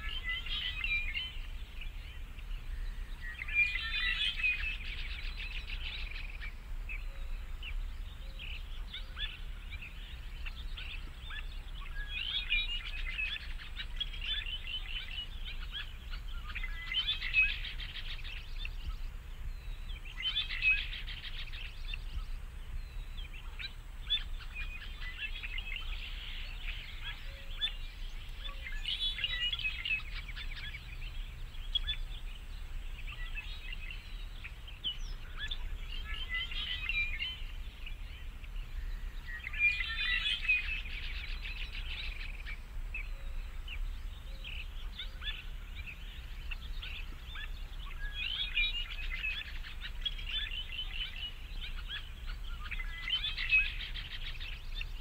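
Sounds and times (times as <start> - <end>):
small birds twittering: 0.0 - 55.0.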